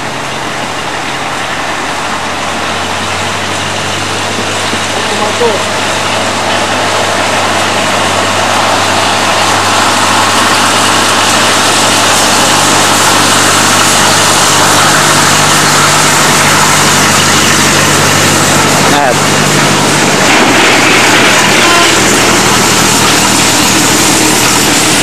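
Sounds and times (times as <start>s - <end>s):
rushing noise: 0.0s - 25.0s
train engine drone: 0.0s - 25.0s.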